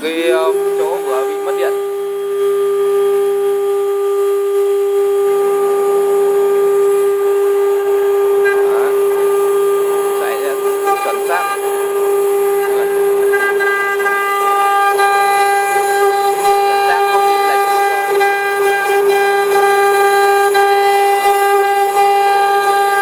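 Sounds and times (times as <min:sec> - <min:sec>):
engraving spindle whine: 0:00.0 - 0:23.0.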